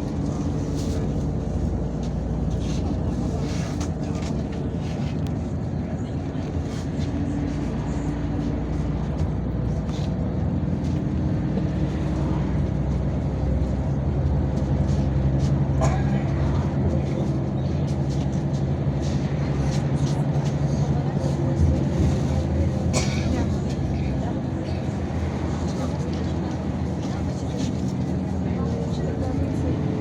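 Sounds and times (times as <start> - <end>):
bus engine drone: 0.0 - 30.0
road noise: 0.0 - 30.0.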